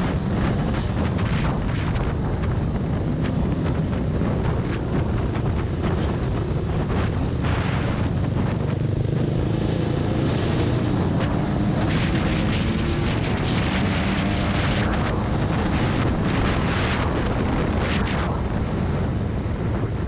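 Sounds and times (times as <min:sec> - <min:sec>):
off-road vehicle engine running: 0:00.0 - 0:20.0
wind buffeting microphone: 0:00.0 - 0:20.0.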